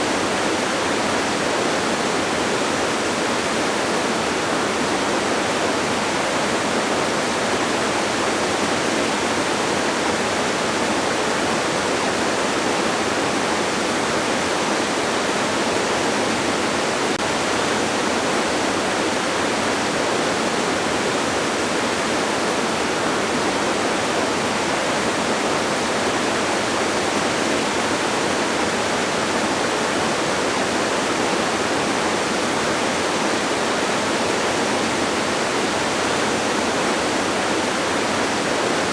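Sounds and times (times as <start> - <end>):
distant waterfall rushing: 0.0 - 38.9.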